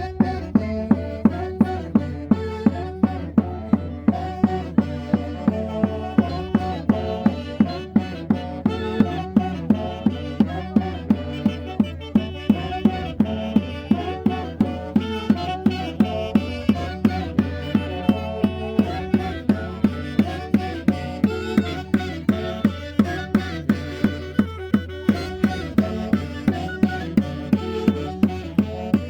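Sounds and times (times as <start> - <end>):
band playing festival music: 0.0 - 29.0.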